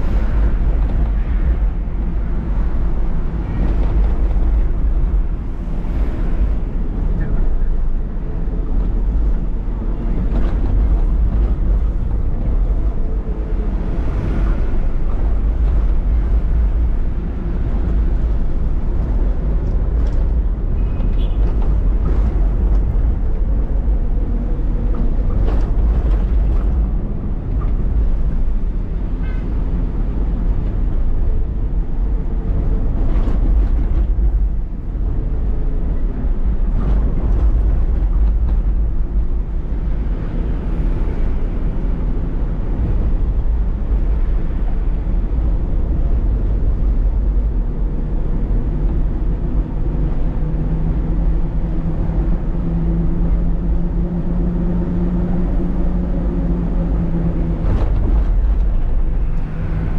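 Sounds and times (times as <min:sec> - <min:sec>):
lorry diesel engine: 0:00.0 - 0:59.9.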